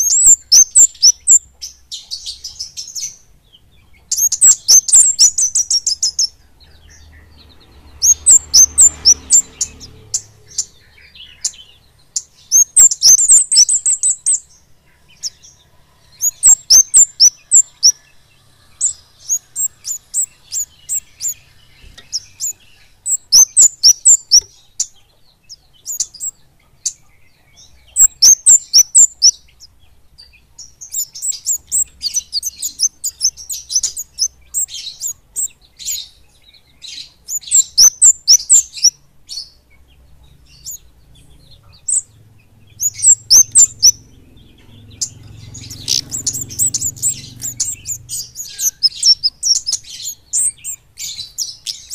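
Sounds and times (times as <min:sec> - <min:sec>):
bird singing high chirping notes: 0:00.0 - 0:51.9.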